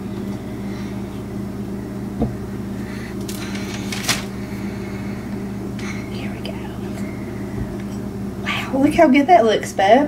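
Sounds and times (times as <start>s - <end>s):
kitchen appliance humming: 0.0s - 10.0s.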